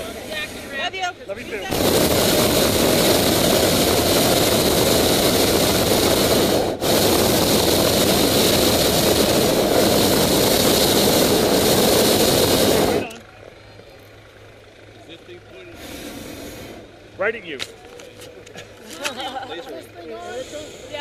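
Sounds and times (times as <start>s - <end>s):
propane burner roaring: 0.0s - 21.0s.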